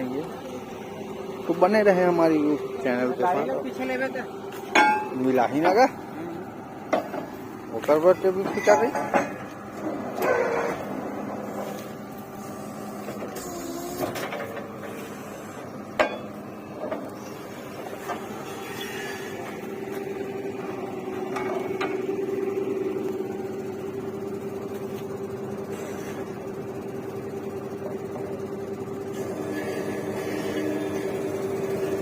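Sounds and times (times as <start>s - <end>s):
drilling rig machinery humming: 0.0s - 32.0s.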